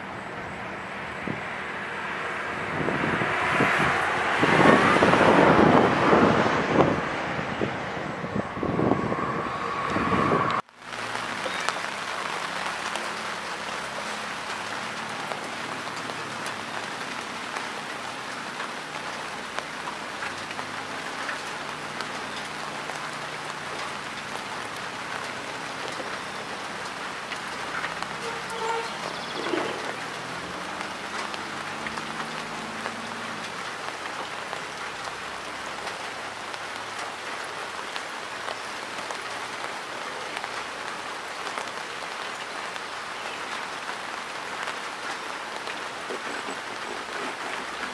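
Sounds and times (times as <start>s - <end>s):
rain falling on water and grass: 0.0s - 47.9s.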